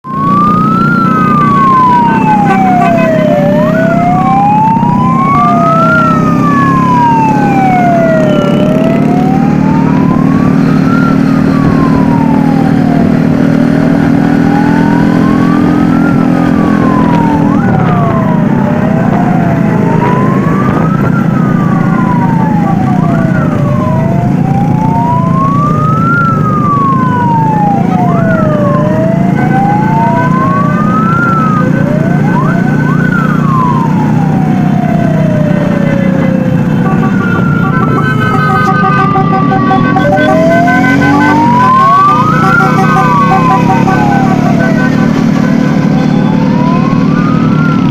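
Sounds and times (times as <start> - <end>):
sirens sweeping quickly: 0.0 - 47.9
slow siren wail: 0.0 - 47.9.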